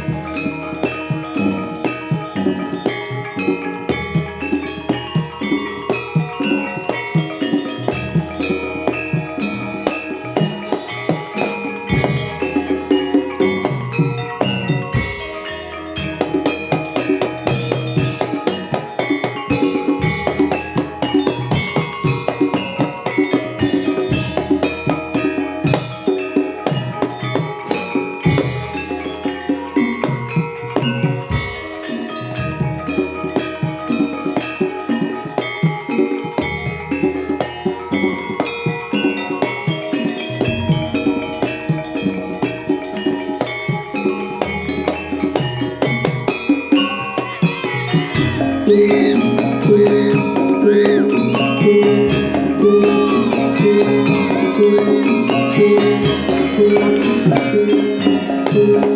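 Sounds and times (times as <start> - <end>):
gongs and metallophones ringing: 0.0 - 58.9
hand drums beating quick rhythm: 0.0 - 58.9.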